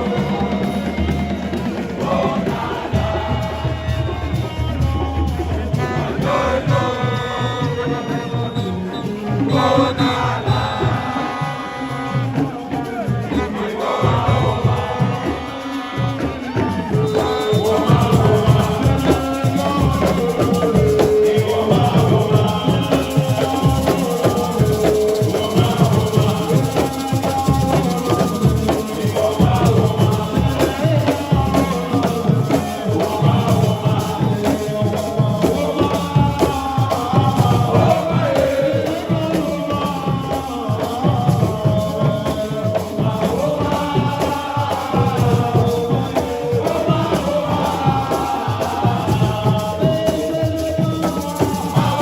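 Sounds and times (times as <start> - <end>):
crowd singing together: 0.0 - 52.0
rhythmic percussion with shaker: 0.0 - 52.0.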